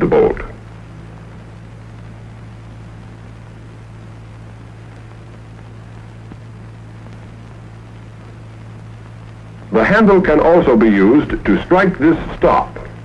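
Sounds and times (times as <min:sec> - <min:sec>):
film soundtrack hum and hiss: 0:00.0 - 0:13.0.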